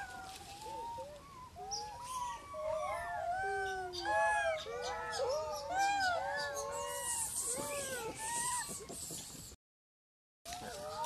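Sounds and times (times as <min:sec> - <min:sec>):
monkeys coo calling: 0:00.0 - 0:09.5, 0:10.5 - 0:11.0.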